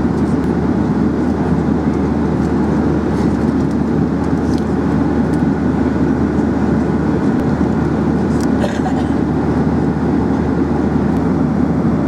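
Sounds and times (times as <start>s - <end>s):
jet airliner cabin roar: 0.0s - 12.0s.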